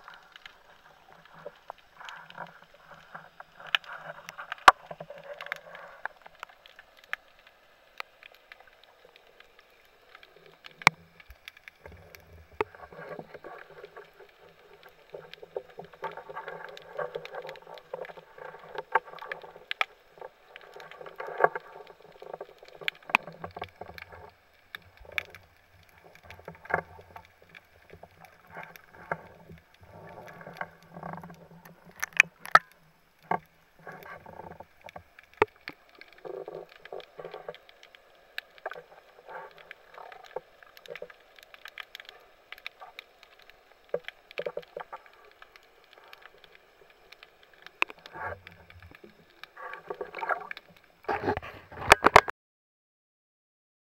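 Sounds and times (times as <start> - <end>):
underwater water movement: 0.0 - 52.3.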